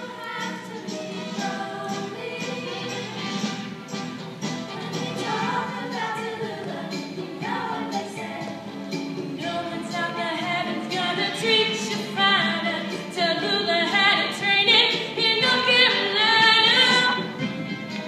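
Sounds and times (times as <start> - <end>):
group of voices singing: 0.0 - 3.5, 4.7 - 17.4.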